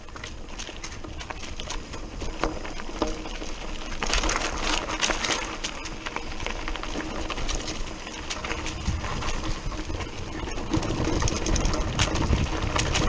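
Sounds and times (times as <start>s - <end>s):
bike clattering over bumps: 0.0s - 13.0s
bike tyres crunching over rocks: 0.0s - 13.0s.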